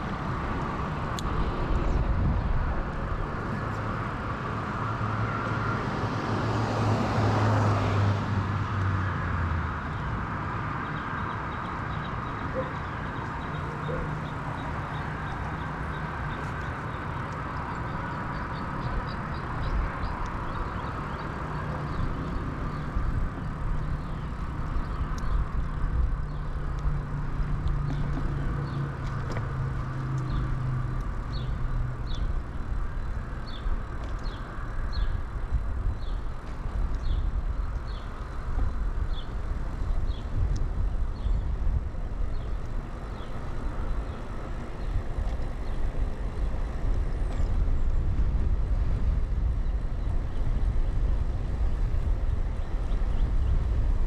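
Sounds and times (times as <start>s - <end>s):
low vehicle hum: 0.0s - 54.0s
wind rumble on microphone: 0.0s - 54.0s
bike tyres rolling on pavement: 9.8s - 54.0s.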